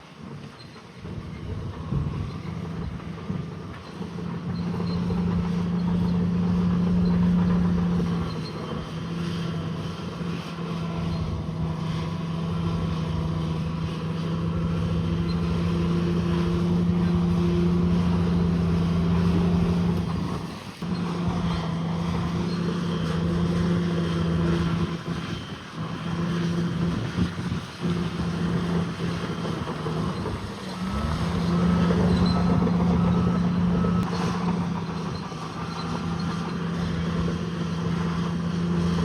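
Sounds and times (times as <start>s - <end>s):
bulldozer diesel engine rumbling: 0.0s - 39.0s.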